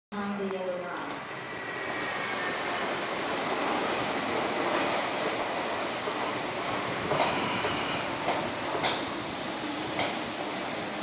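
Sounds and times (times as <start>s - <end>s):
train wheels rushing on rail: 0.8s - 11.0s.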